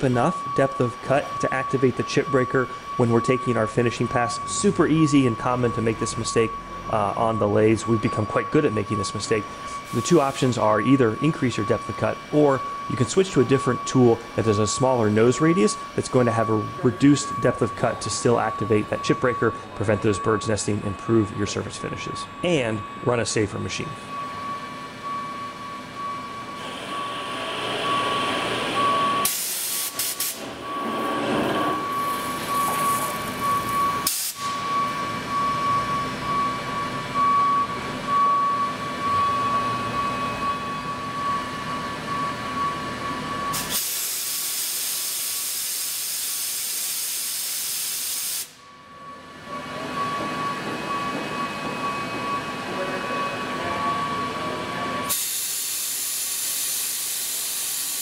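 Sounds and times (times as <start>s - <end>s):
lathe machine whine: 0.0s - 44.0s, 48.8s - 58.0s.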